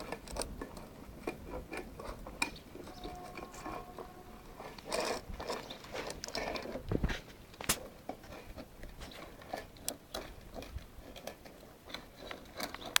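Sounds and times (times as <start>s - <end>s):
puppies lapping and chewing: 0.0s - 13.0s.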